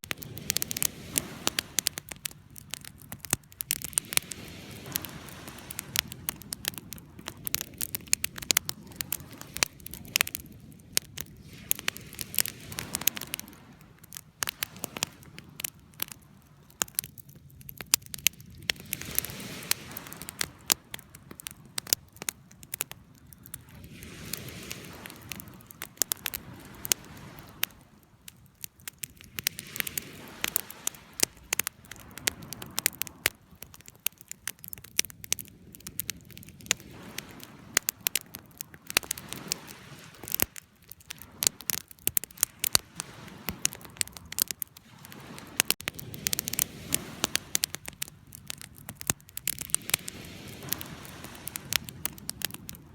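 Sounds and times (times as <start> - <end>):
burning wood popping: 0.0 - 52.9
soft rush of flame: 0.0 - 52.9
wood fire crackling: 0.0 - 52.9.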